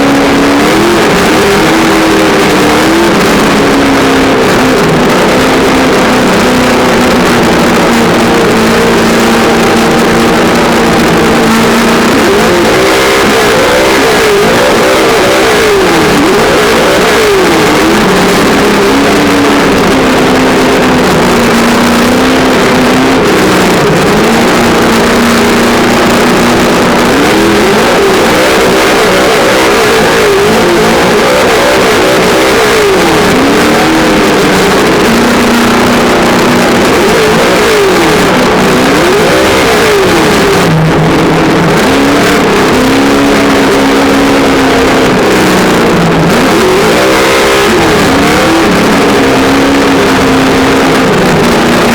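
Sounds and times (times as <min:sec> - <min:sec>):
simulated engine sound from speaker: 0:00.0 - 0:51.9.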